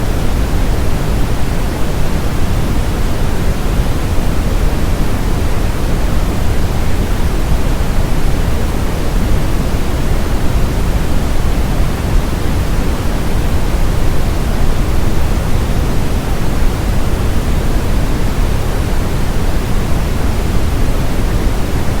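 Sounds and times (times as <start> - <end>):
steady brown noise: 0.0 - 22.0.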